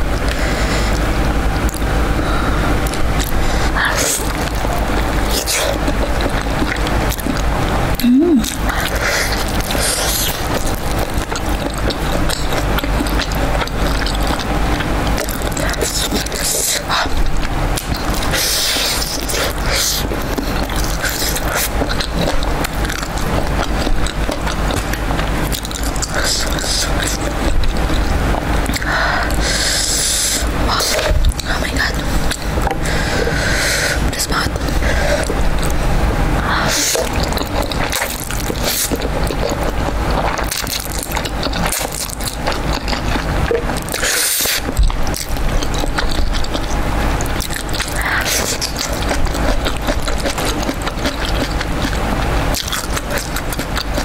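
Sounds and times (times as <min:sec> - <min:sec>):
steady low hum: 0:00.0 - 0:54.0
wet chewing and crunching: 0:00.0 - 0:54.0.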